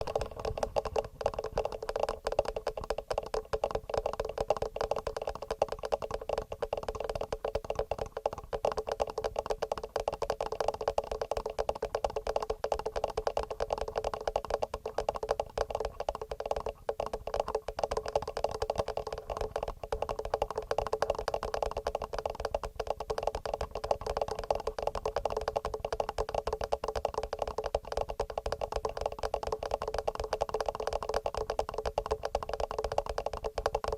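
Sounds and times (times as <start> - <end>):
fingernails tapping on microphones: 0.0 - 33.9.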